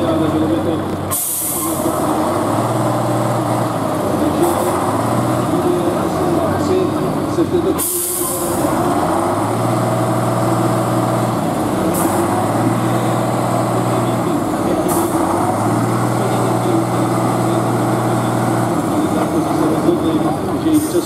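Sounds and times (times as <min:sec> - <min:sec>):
truck engine running hard: 0:00.0 - 0:21.0.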